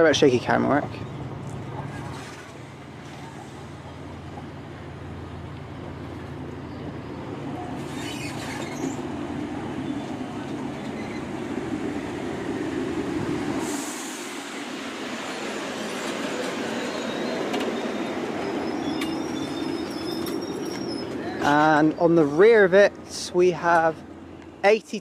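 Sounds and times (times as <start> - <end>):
train engine hum: 0.0 - 25.0
train rumble: 0.0 - 25.0.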